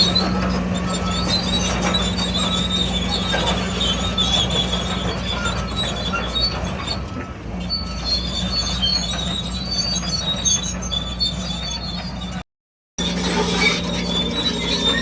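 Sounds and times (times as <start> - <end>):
bulldozer engine hum: 0.0 - 12.4, 13.0 - 15.0
steel tracks squealing: 0.0 - 12.4, 13.0 - 15.0.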